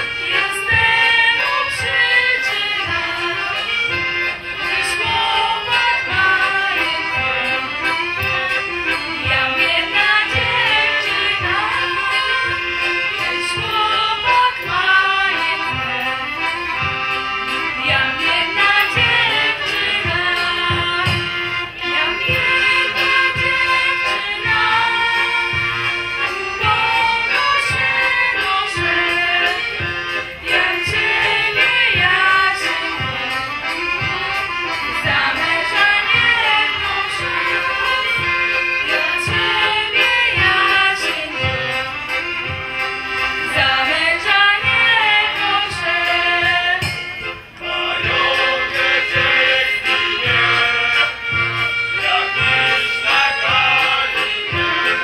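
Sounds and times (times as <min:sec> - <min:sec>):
folk band accompaniment: 0:00.0 - 0:55.0
group singing folk song: 0:00.0 - 0:55.0.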